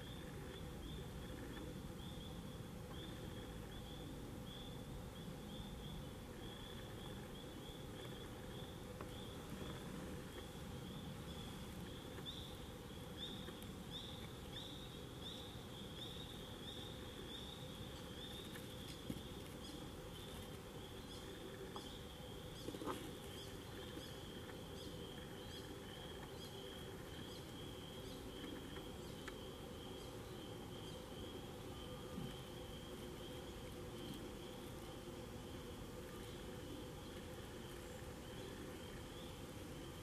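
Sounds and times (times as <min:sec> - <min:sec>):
tree frogs calling: 0:00.0 - 0:40.0.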